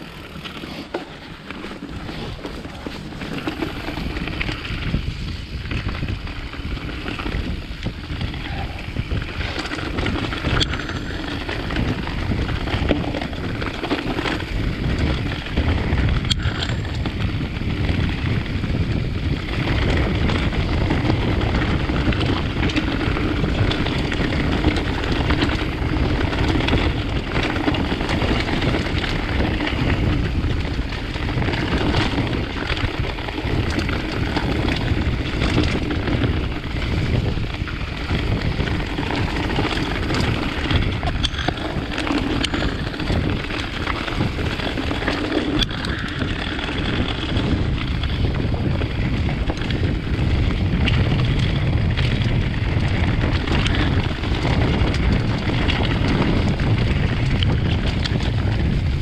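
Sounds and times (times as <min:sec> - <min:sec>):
bike knocks and rattles: 0:00.0 - 0:59.0
tyres rolling on dirt trail: 0:00.0 - 0:59.0
wind buffeting microphone: 0:00.0 - 0:59.0.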